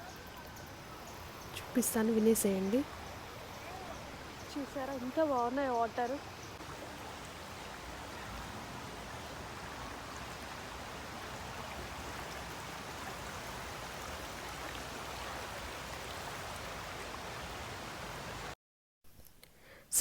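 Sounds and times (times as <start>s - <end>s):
river water rushing and splashing: 0.1s - 18.6s.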